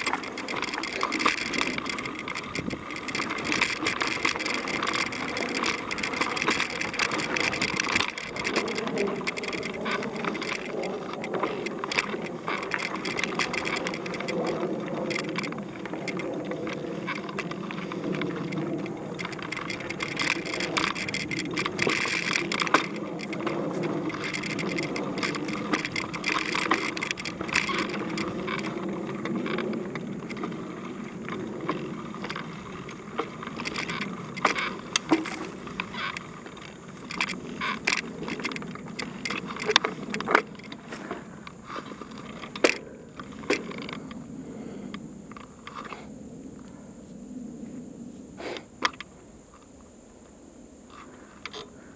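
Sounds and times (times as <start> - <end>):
bike clicking and rattling: 0.0 - 46.9, 48.7 - 49.8, 50.7 - 51.9
bike tyres rolling on dirt: 0.0 - 51.9.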